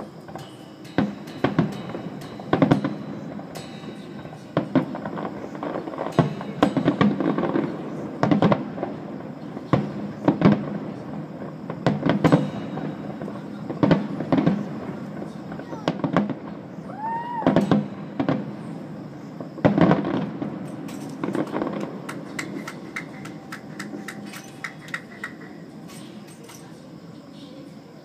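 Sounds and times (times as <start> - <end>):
fireworks shells bursting: 0.0 - 27.1.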